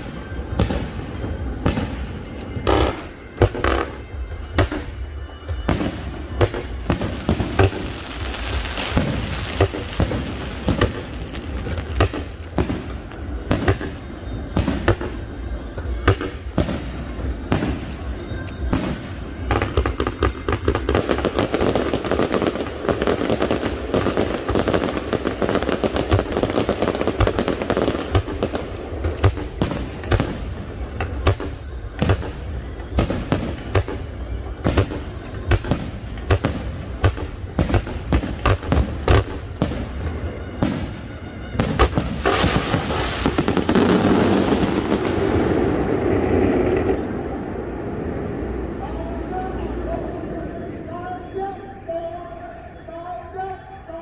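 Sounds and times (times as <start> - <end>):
fireworks bangs: 0.0 - 49.8
fireworks crackling: 0.0 - 50.9.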